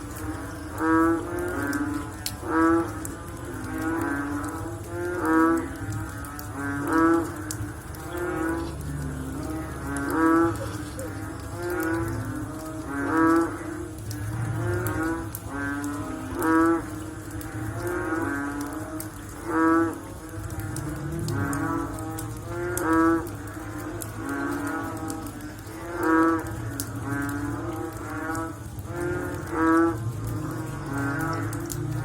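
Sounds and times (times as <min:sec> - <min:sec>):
frogs croaking: 0:00.0 - 0:32.0.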